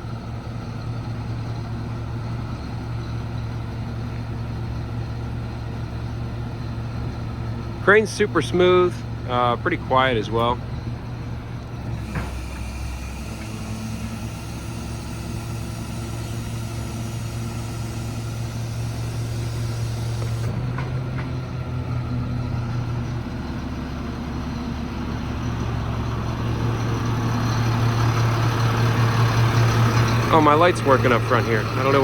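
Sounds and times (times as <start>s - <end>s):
diesel engine humming: 0.0s - 32.0s.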